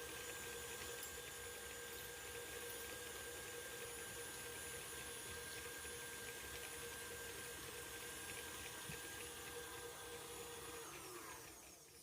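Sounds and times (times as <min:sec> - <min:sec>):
room tone hum and hiss: 0:00.0 - 0:12.0.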